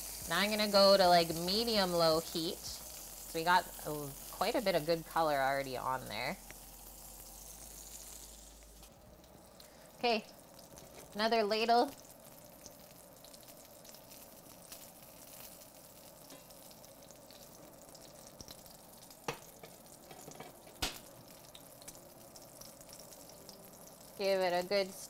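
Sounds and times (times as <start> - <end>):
meat sizzling in a skillet: 0.0 - 25.0.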